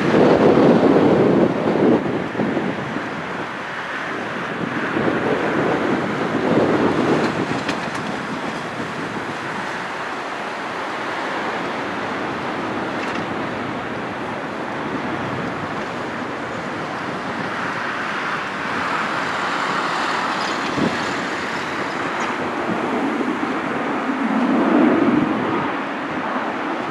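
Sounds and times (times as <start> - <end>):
jet engine rumble: 0.0 - 26.9.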